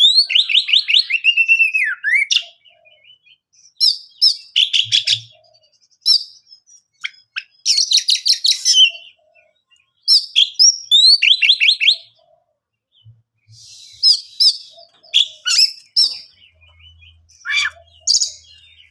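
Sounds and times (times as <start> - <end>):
bird singing whistled trills: 0.0 - 12.3, 13.0 - 18.9.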